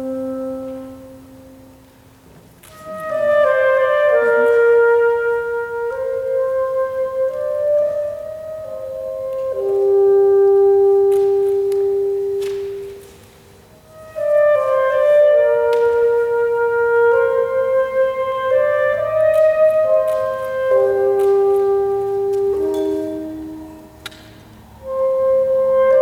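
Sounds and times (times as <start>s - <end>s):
solo saxophone: 0.0s - 13.1s, 13.8s - 26.0s.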